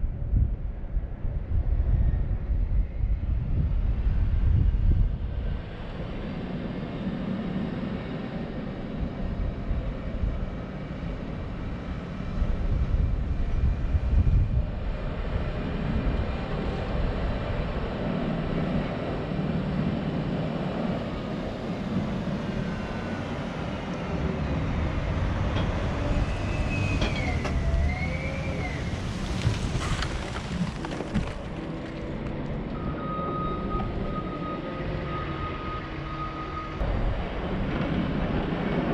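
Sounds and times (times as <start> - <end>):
diesel engine rumbling: 5.2 - 38.9.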